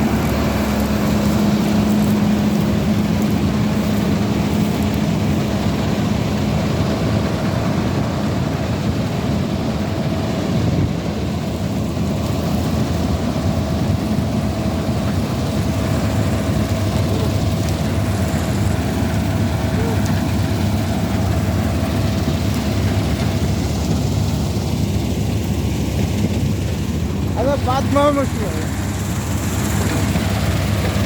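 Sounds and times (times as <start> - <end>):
combine harvester engine drone: 0.0 - 31.0
machinery hum: 0.0 - 31.0.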